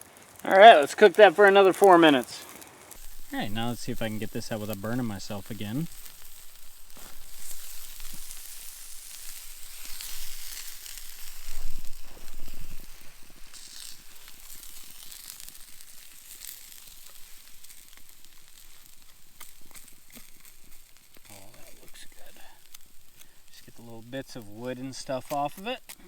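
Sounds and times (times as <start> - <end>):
coals crackling: 0.0 - 26.0
steak sizzling on coals: 0.0 - 26.0.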